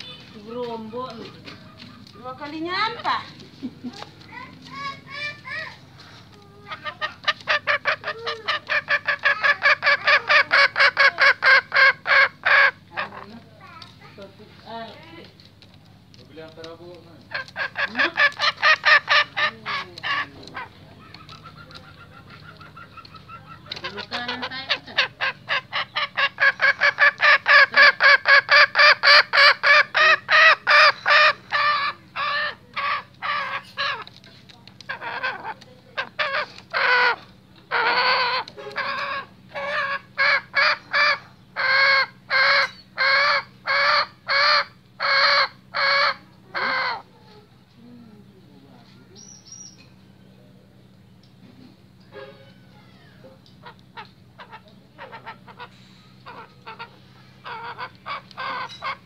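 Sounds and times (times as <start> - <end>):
junglefowl clucking calls: 0.0 - 13.5, 15.6 - 47.5, 51.4 - 59.0.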